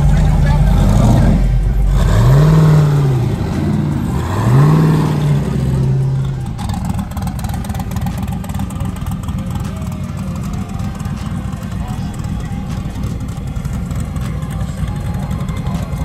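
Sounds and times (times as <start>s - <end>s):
car engine idling: 0.0s - 16.0s
car engine revving: 0.0s - 16.0s.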